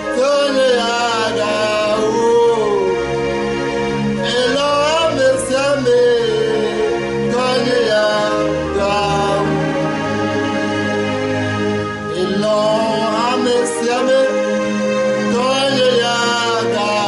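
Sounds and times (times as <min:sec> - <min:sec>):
man singing: 0:00.0 - 0:03.2, 0:04.2 - 0:10.8, 0:12.1 - 0:17.0
instrumental backing music: 0:00.0 - 0:17.0.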